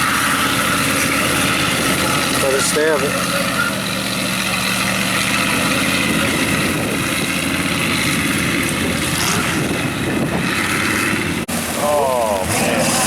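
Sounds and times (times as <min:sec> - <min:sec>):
truck engine running at high revs: 0:00.0 - 0:13.0.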